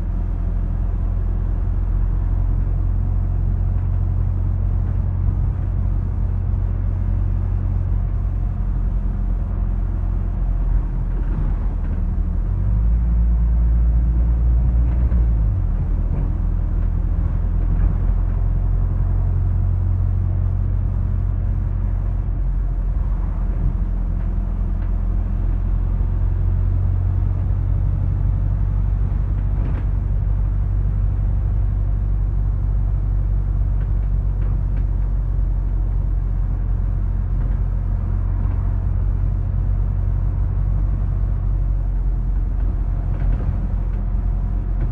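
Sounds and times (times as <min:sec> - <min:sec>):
bus engine rumble and road noise: 0:00.0 - 0:44.9.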